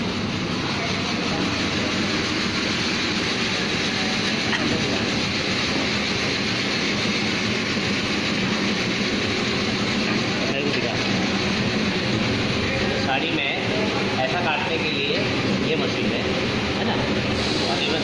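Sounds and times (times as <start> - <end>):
cutting machine running: 0.0 - 18.0.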